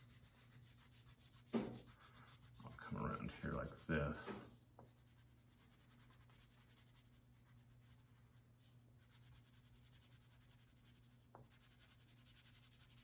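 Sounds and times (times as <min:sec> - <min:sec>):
crayon scratching on paper: 0:00.0 - 0:04.3, 0:04.9 - 0:13.0.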